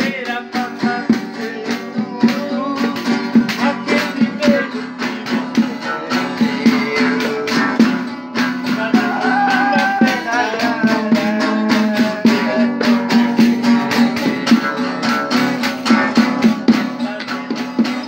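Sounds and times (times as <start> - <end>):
acoustic guitar strumming: 0.0 - 18.0
man singing: 0.0 - 18.0.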